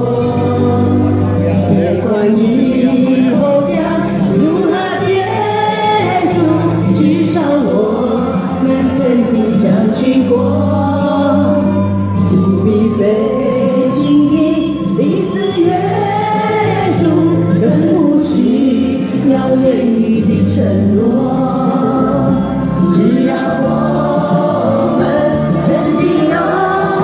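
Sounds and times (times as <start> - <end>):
mixed choir singing folk song: 0.0 - 27.0.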